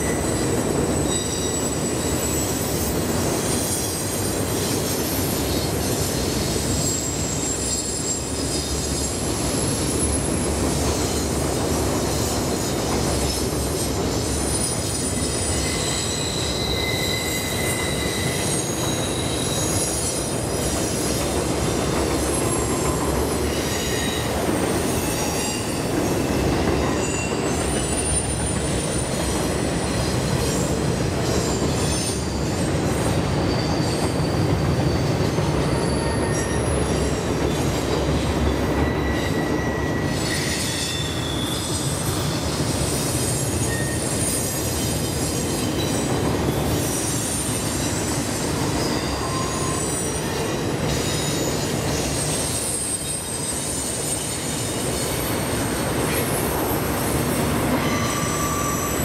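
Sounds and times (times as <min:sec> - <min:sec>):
high wheel squeals: 0:00.0 - 0:59.0
rumble of train wheels on rail: 0:00.0 - 0:59.0.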